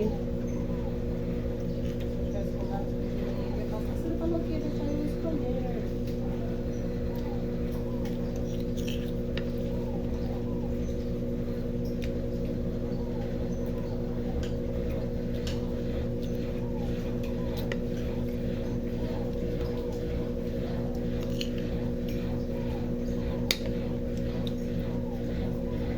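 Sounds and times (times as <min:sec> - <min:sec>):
washing machine spinning: 0:00.0 - 0:25.9.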